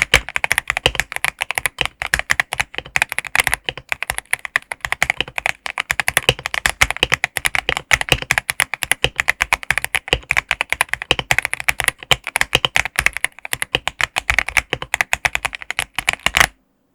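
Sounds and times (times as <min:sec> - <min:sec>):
fast typing on mechanical keyboard: 0:00.0 - 0:16.6.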